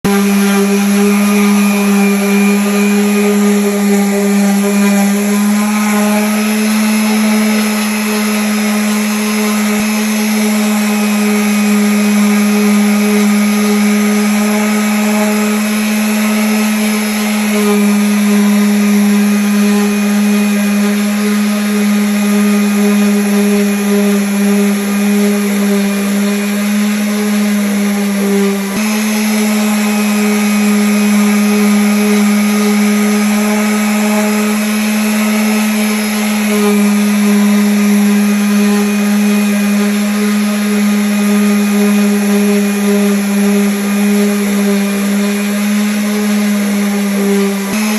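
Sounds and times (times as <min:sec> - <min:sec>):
electric sander on wood: 0:00.0 - 0:47.9.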